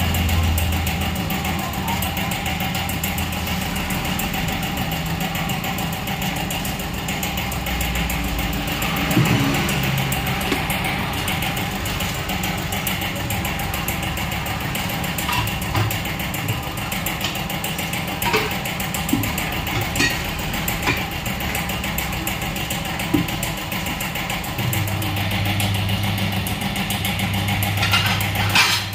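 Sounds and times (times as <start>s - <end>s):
machine hum: 0.0s - 28.9s.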